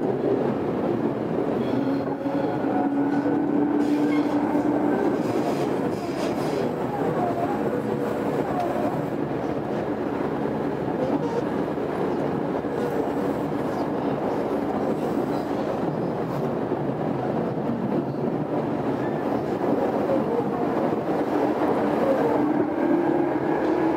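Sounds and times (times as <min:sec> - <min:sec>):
train running in tunnel: 0:00.0 - 0:23.9.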